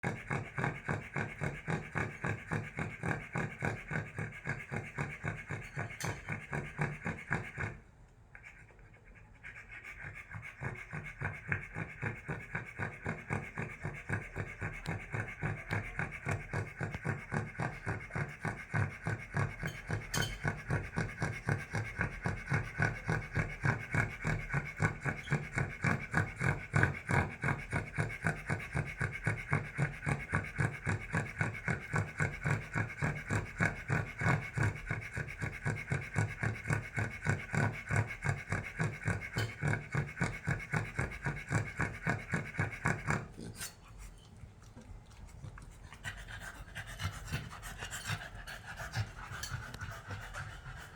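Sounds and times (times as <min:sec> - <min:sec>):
dog snoring: 0:00.0 - 0:07.8, 0:09.8 - 0:43.8.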